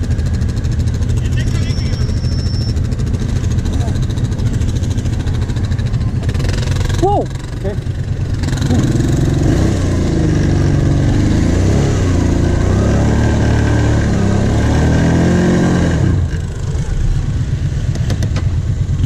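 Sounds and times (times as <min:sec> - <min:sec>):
quad engine revving: 0:00.0 - 0:19.0.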